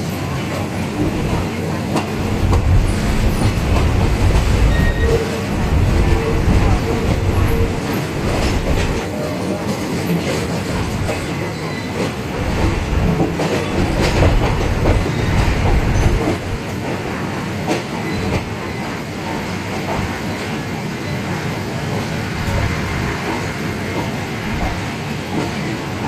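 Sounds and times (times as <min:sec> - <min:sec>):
train wheels rumbling and clacking: 0:00.0 - 0:26.0.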